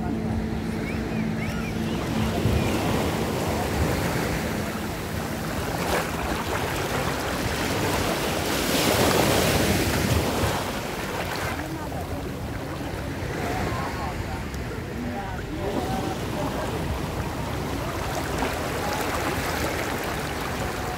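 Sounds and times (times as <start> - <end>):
sea water sloshing: 0.0 - 20.9
wave surging: 0.0 - 20.9.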